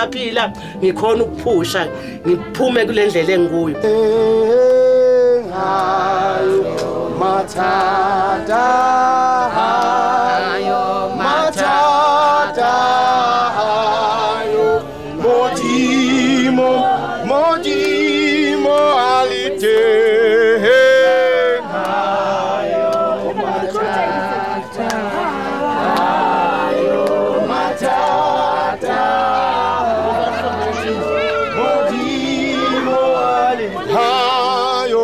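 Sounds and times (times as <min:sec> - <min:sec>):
voices singing with vibrato: 0:03.8 - 0:35.0.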